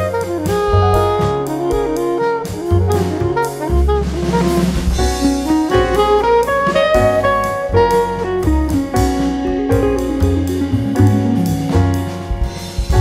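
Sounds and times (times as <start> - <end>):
instrumental jazz music: 0.0 - 13.0.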